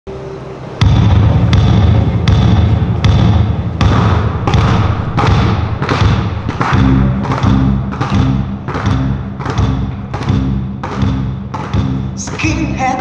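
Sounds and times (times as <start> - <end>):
deep boom: 0.8 - 12.2
basketballs bouncing on hard floor: 0.8 - 13.0.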